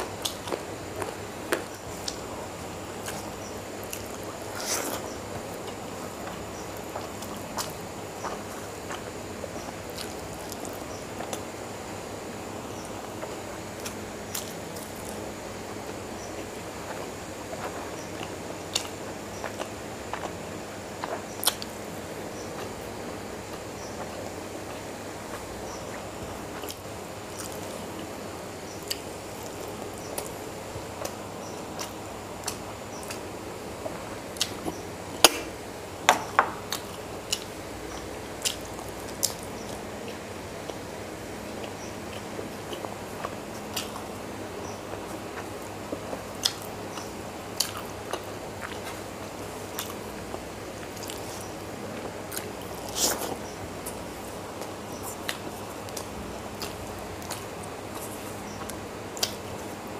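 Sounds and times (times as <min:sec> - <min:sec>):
person chewing food: 0:00.0 - 0:40.9, 0:41.6 - 0:59.9
steady background hiss: 0:00.0 - 0:59.9.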